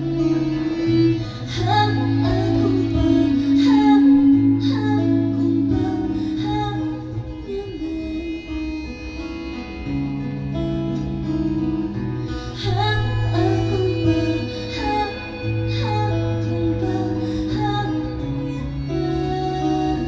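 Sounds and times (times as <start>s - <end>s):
acoustic guitar: 0.0s - 20.0s
electric guitar: 0.0s - 20.0s
low sustained notes: 0.0s - 20.0s.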